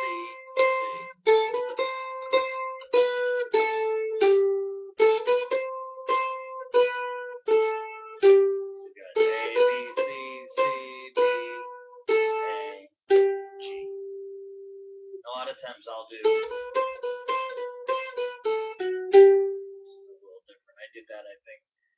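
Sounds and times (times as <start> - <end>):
mandolin picking melody: 0.0 - 14.5, 16.2 - 20.2.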